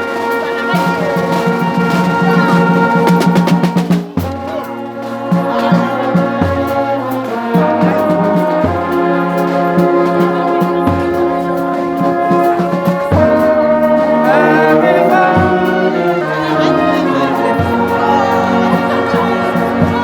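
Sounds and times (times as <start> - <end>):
brass band playing slow tune: 0.0 - 20.0.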